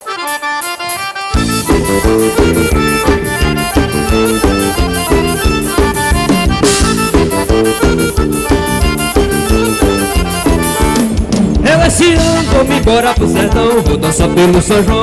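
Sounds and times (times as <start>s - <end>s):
accordion: 0.0s - 15.0s
bass and drums dance beat: 1.4s - 15.0s.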